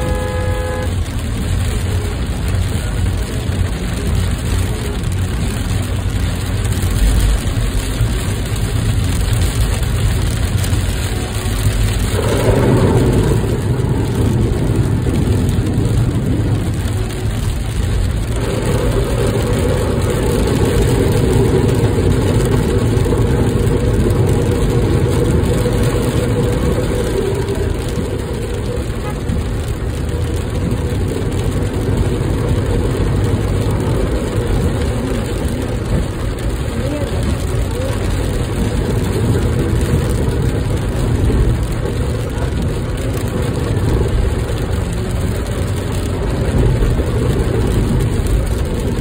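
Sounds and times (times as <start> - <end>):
engine and road rumble: 0.0 - 49.0.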